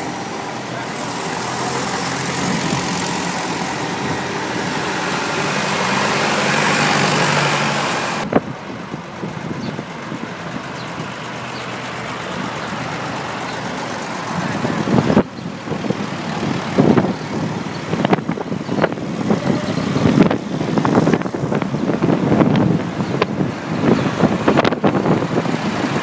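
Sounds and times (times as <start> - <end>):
dull engine sound: 0.0 - 26.0
tractor engines running: 0.0 - 26.0.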